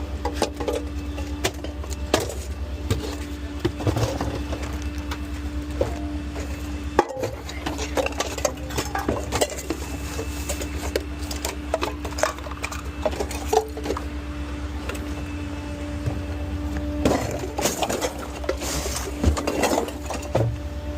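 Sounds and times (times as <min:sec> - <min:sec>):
garbage truck engine drone: 0:00.0 - 0:20.9
trash knocking and clattering: 0:00.2 - 0:14.2, 0:16.0 - 0:20.6.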